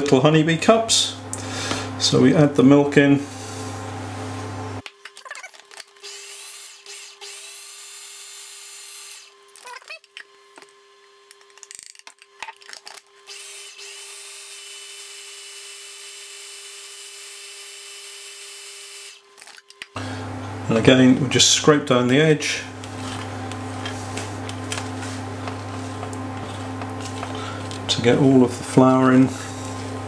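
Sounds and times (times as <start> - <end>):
food processor motor whining: 3.2 - 30.0.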